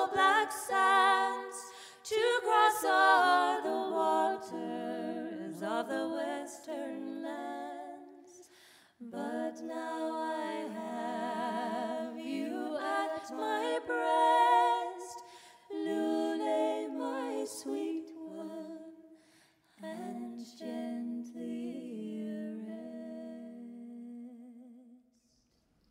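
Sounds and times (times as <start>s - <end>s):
women singing in harmony: 0.0s - 24.9s.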